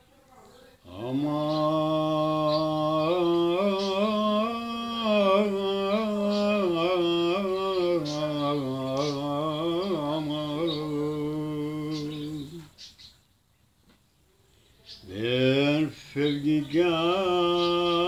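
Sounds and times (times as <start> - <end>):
elderly man singing unaccompanied: 0.8 - 13.0, 15.0 - 18.0.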